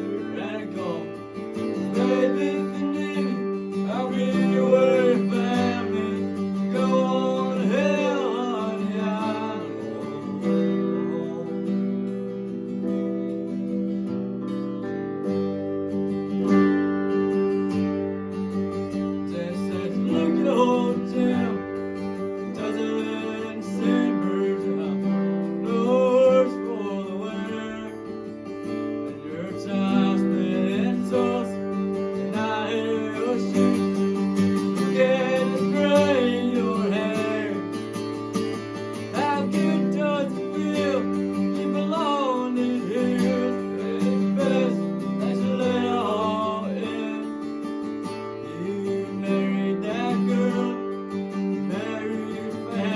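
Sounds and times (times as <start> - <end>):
acoustic guitar strumming: 0.0 - 52.9
sliding lead melody: 0.0 - 52.9.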